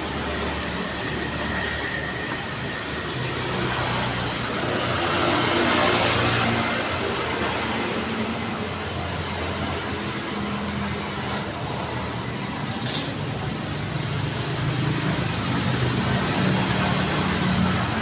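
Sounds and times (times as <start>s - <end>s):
passing cars: 0.0s - 18.0s.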